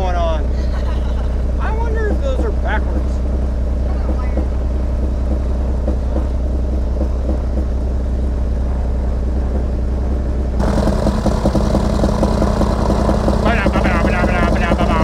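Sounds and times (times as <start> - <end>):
airplane piston engines idling: 0.0 - 15.0.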